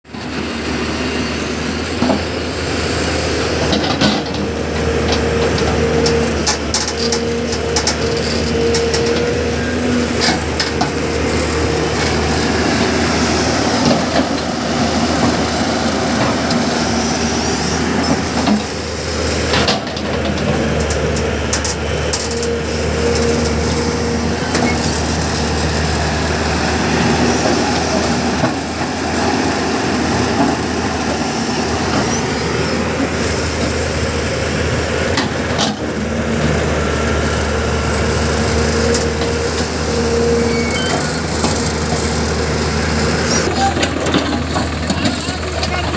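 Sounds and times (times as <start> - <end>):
diesel engines running: 0.0 - 45.9.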